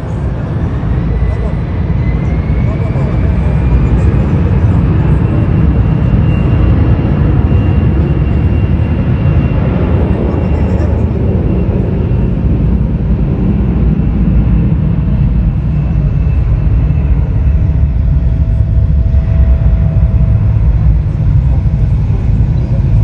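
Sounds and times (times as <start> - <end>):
faint engine whine: 0.0 - 23.0
jet engines rumbling: 0.0 - 23.0.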